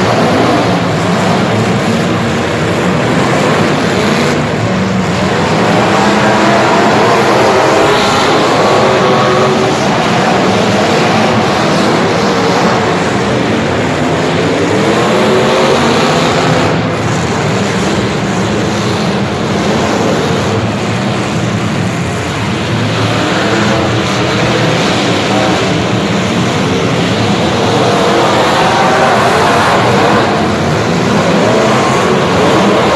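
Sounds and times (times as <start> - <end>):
vehicle engine revving: 0.0 - 32.9.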